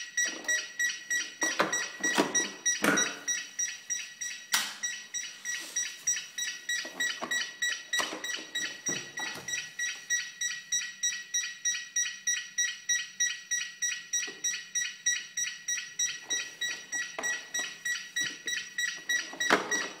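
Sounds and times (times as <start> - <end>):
rapid electronic beeping: 0.0 - 20.0.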